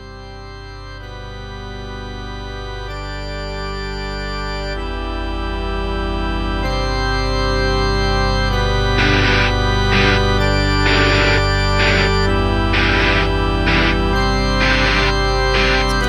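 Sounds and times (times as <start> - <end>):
background music chords: 0.0 - 16.0.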